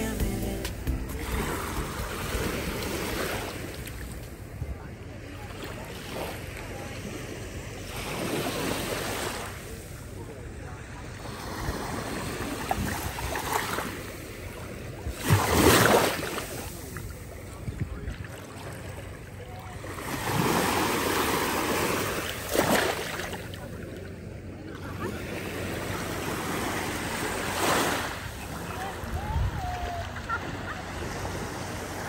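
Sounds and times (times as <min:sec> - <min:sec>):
sea waves breaking on shore: 0:01.1 - 0:32.0.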